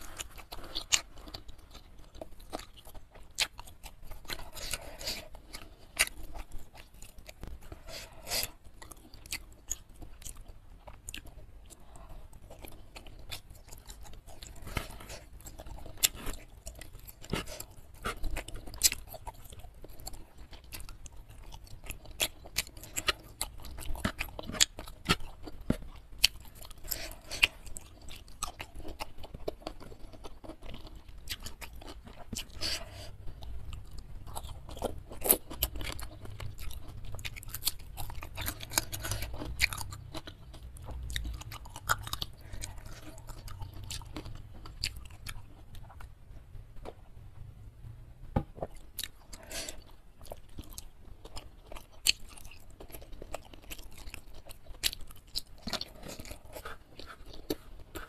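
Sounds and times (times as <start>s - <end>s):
chewing and crunching food: 0.0s - 47.5s, 48.4s - 58.0s.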